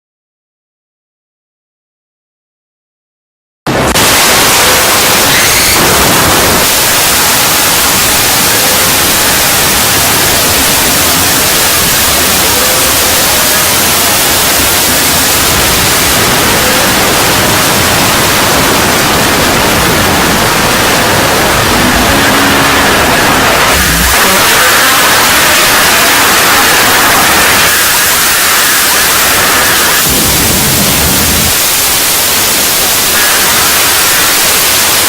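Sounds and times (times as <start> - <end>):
loud static hiss: 3.7 - 35.0.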